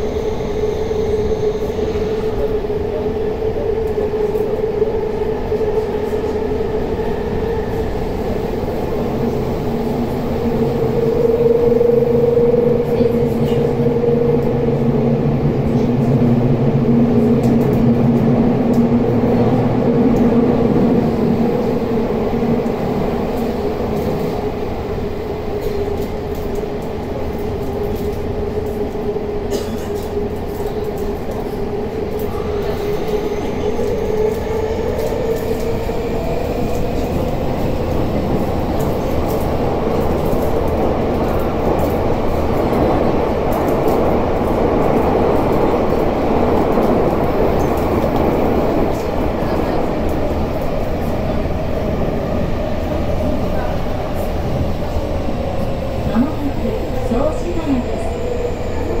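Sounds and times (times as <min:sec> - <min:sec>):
train motors humming: 0:00.0 - 0:59.0.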